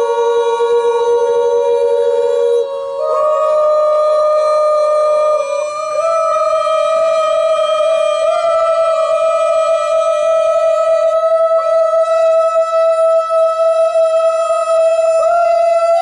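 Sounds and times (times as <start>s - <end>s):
music of long held notes: 0.0s - 16.0s.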